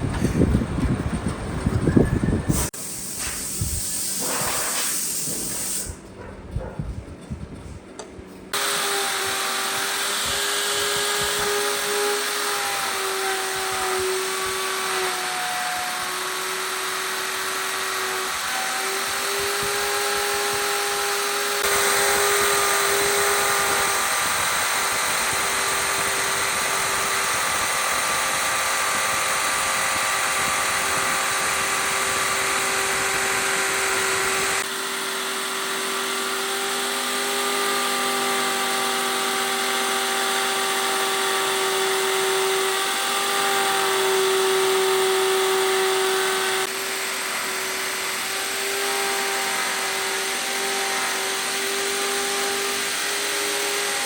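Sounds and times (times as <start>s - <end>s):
electric power tool whining: 8.0s - 54.0s.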